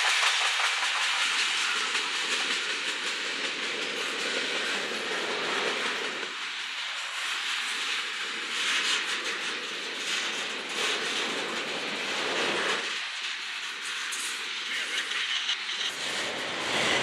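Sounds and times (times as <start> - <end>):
steel wheels rolling on rail: 0.0 - 17.0.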